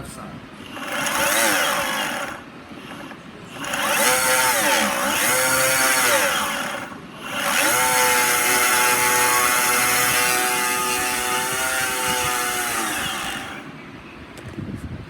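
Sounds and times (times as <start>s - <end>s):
electric skateboard motor whine: 0.7s - 13.7s.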